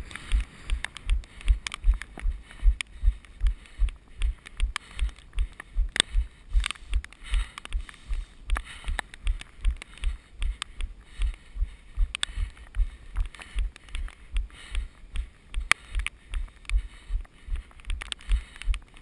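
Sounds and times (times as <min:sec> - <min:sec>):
small clicks and rattles: 0:00.0 - 0:11.4, 0:12.1 - 0:19.0.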